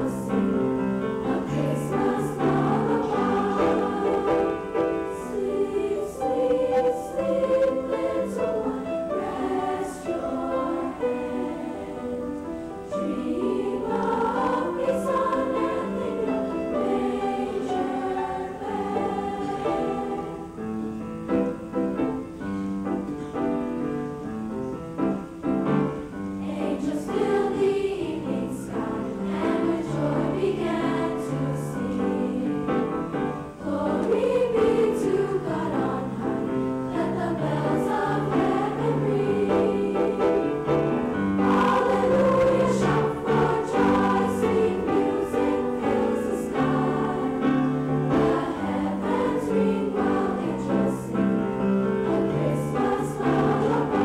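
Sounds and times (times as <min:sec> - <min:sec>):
women's choir singing: 0:00.0 - 0:22.0, 0:25.8 - 0:54.0.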